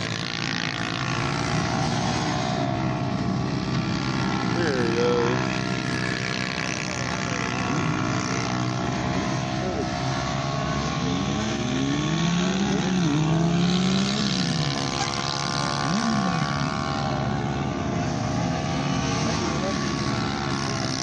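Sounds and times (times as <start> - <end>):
motorcycle engine revving: 0.0 - 21.0
motorcycle engines droning: 0.0 - 21.0.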